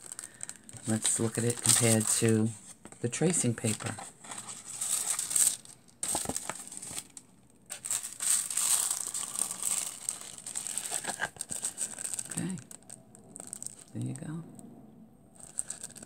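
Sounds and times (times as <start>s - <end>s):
foil sheet crinkling: 0.0s - 13.9s, 15.4s - 16.0s
paper rustling: 0.0s - 13.9s, 15.4s - 16.0s.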